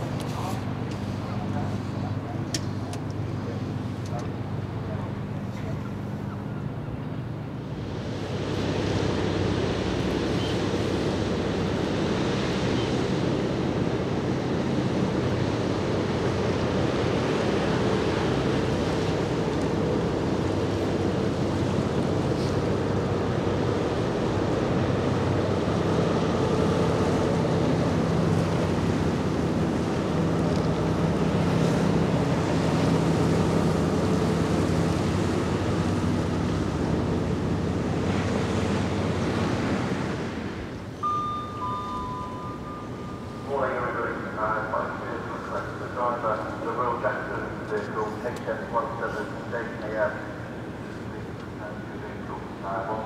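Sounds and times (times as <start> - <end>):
low boat engine hum: 0.0 - 53.0
waves washing: 0.0 - 53.0.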